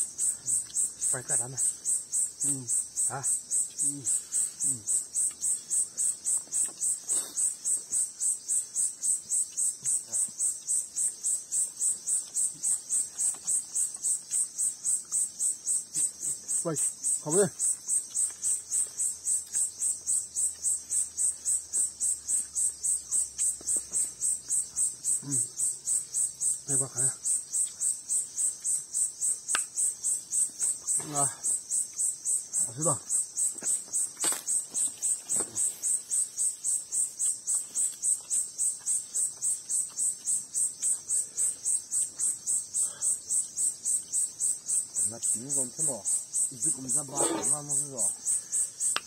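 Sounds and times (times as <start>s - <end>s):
insect chirping: 0.0s - 49.0s.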